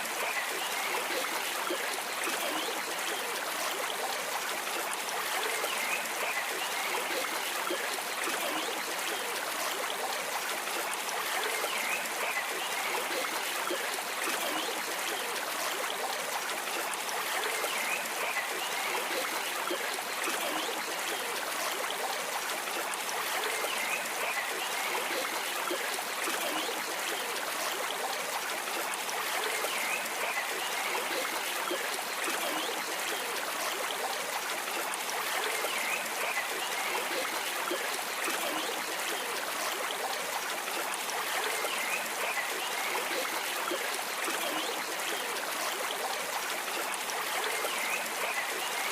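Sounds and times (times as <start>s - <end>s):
stream water trickling: 0.0s - 48.9s.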